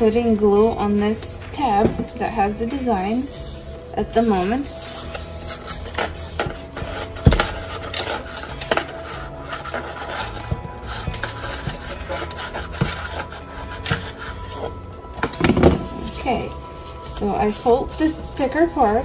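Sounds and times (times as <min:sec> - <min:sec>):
paper handling: 0:01.2 - 0:18.8.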